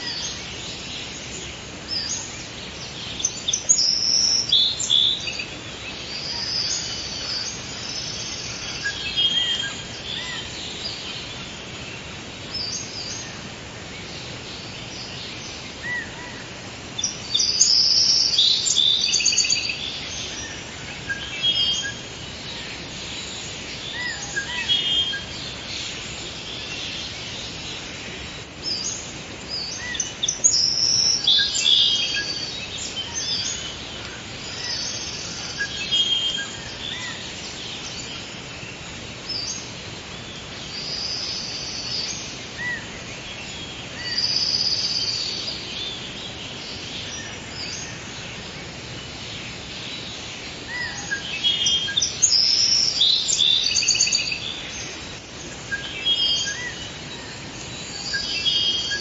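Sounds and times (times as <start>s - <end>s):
birds chirping and singing: 0.0s - 59.0s
steady background hiss: 0.0s - 59.0s.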